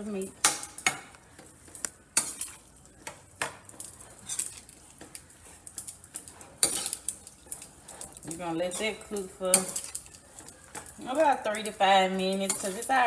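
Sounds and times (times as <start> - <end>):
metal spoon scraping a skillet: 0.0 - 13.0.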